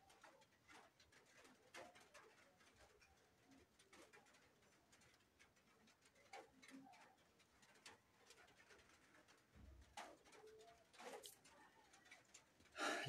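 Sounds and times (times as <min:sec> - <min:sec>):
soft clicks and rustles: 0:00.0 - 0:12.8.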